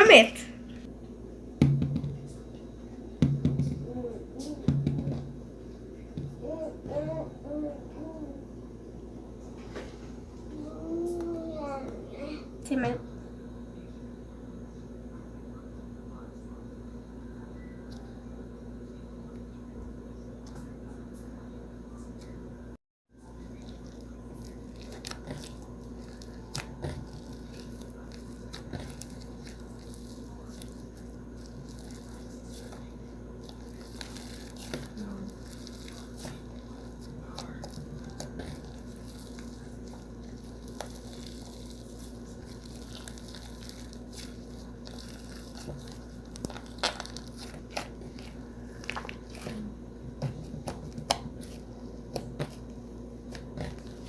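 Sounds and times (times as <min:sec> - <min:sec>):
low background hum: 0:00.0 - 0:54.0.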